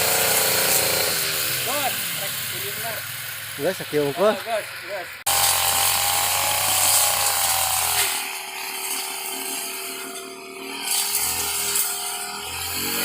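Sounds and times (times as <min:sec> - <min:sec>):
brush cutter engine running: 0:00.0 - 0:13.0.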